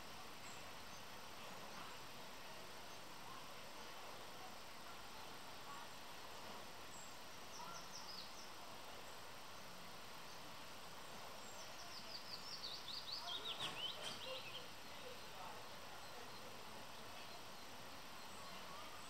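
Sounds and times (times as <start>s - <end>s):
faint steady hiss: 0.0s - 19.0s
songbird chirping: 0.0s - 19.0s.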